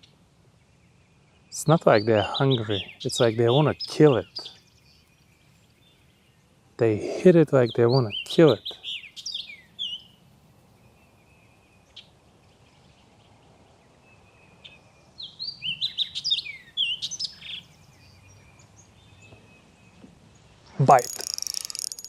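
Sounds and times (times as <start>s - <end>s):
faint background noise: 0.0s - 22.0s
songbird singing: 0.0s - 22.0s.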